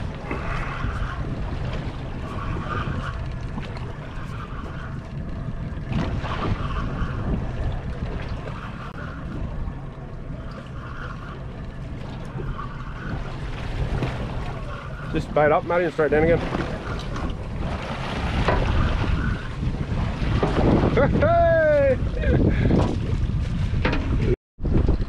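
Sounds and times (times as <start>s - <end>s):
water washing against hull: 0.0s - 25.0s
wind buffeting microphone: 0.0s - 25.0s.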